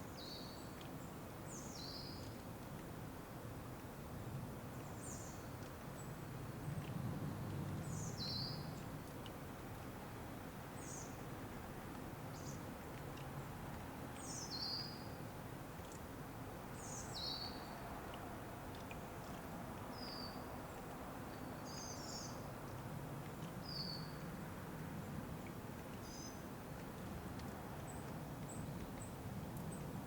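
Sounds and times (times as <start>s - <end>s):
low outdoor background rush: 0.0s - 30.0s.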